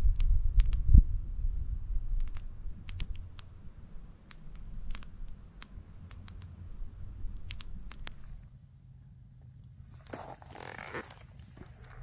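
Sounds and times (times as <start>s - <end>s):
low steady rumble: 0.0s - 12.0s
campfire crackling: 2.2s - 12.0s.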